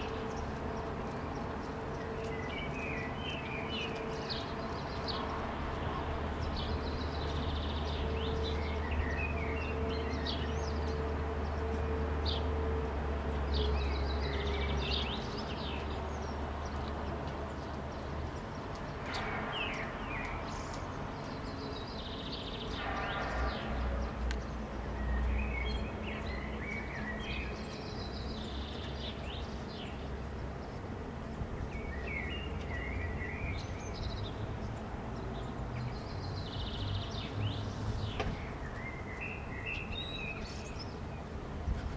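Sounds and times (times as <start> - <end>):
blackbird song: 0.0 - 12.6, 13.4 - 41.9
chaffinch song: 0.0 - 41.4.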